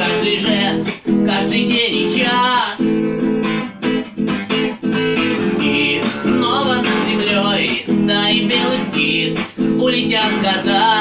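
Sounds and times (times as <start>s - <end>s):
man singing: 0.0s - 3.2s, 5.4s - 11.0s
acoustic guitar strumming: 0.0s - 11.0s.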